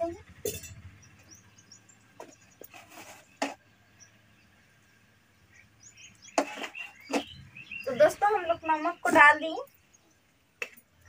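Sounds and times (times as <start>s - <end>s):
faint bird chirps: 0.7s - 10.3s.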